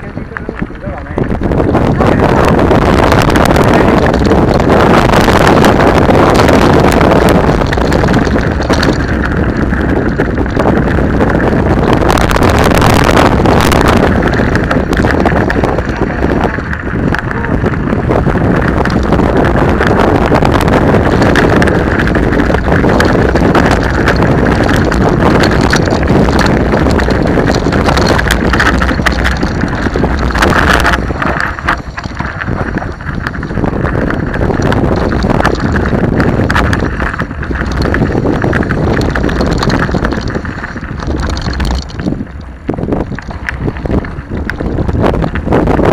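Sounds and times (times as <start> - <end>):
bikes rattling on gravel trail: 0.0 - 45.9
wind buffeting microphone: 0.0 - 45.9.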